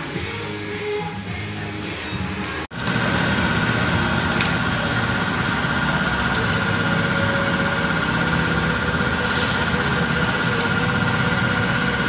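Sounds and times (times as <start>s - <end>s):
engine running with high whine: 0.0s - 12.0s.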